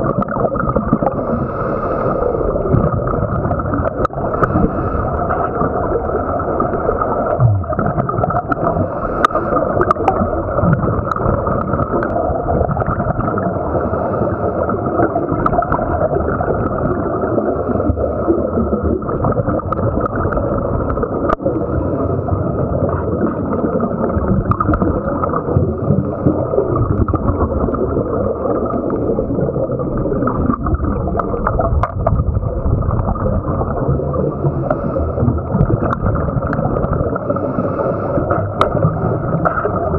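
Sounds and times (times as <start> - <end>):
underwater exhaust bubbles gurgling: 0.0 - 39.9.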